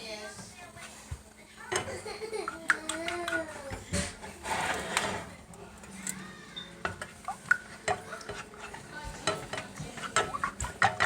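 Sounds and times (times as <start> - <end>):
utensils clinking against pots: 1.7 - 11.0.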